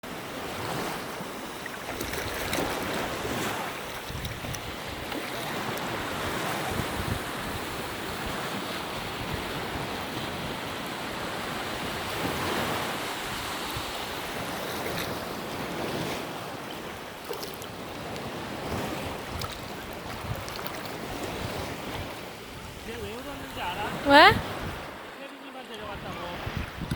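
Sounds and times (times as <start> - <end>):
ocean surf breaking: 0.1 - 26.8
wind buffeting microphone: 0.4 - 25.1, 25.8 - 26.9.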